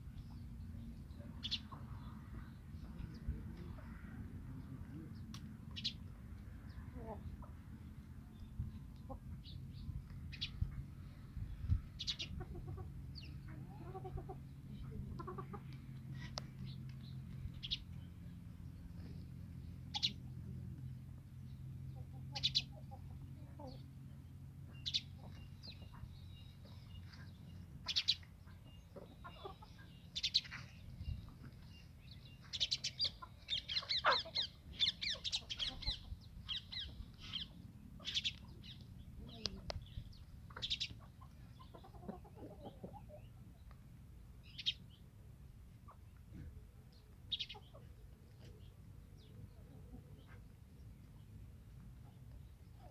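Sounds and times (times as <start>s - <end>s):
chickens clucking: 0.2s - 6.0s, 7.0s - 7.9s, 8.6s - 11.0s, 11.7s - 18.0s, 18.9s - 43.8s, 45.7s - 52.9s
chicks chirping and peeping: 7.0s - 43.8s, 45.8s - 52.9s.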